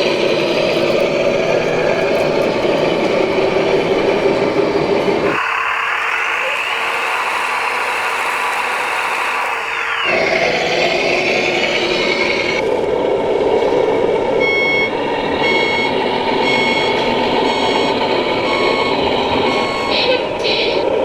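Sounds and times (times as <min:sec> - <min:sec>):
reversing beeper: 0:00.0 - 0:12.7, 0:14.3 - 0:20.9
model engine noise and motors: 0:00.0 - 0:21.0.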